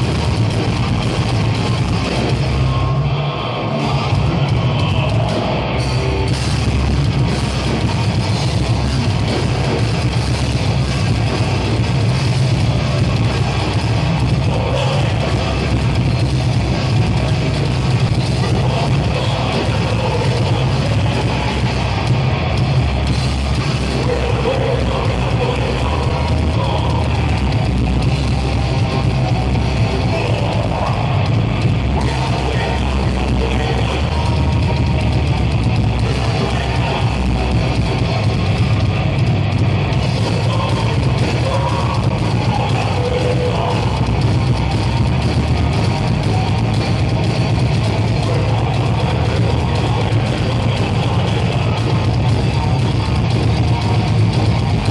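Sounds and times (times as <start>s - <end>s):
drum kit: 0.0s - 54.9s
electric guitars: 0.0s - 54.9s.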